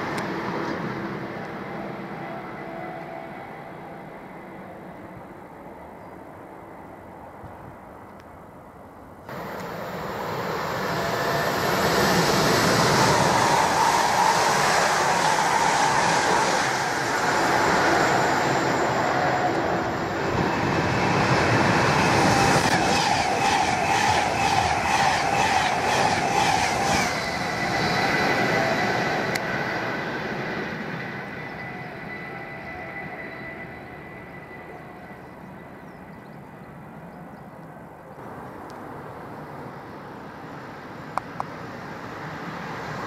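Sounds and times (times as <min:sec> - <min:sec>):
electric train approaching: 0:00.0 - 0:08.1, 0:09.2 - 0:43.0.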